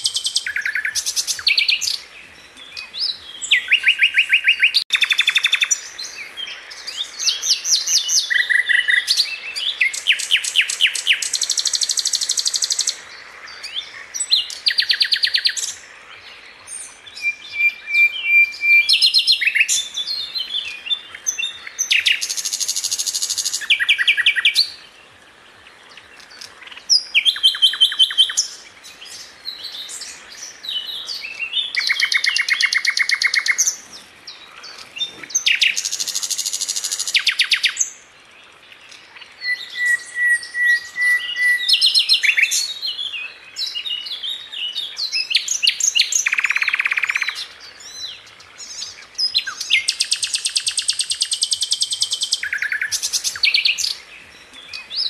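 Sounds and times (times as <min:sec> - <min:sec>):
nightingale singing: 0:00.0 - 0:55.0.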